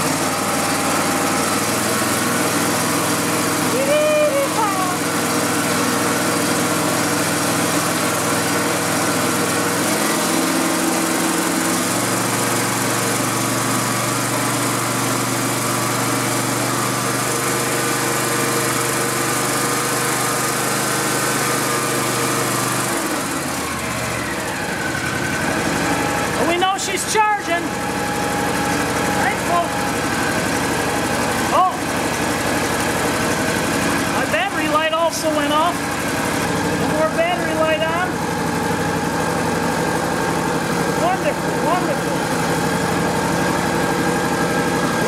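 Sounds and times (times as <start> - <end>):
riding lawn mower engine running: 0.0 - 45.0.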